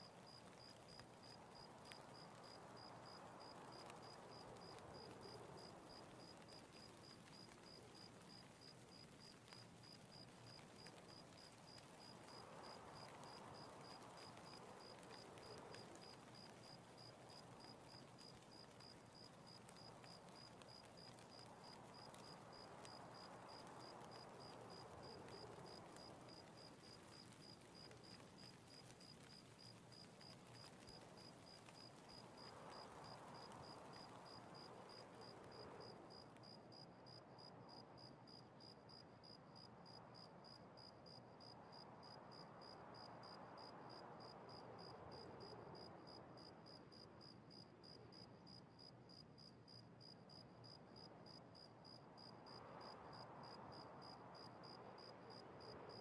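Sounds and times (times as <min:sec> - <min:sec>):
soft hiss: 0:00.0 - 0:56.0.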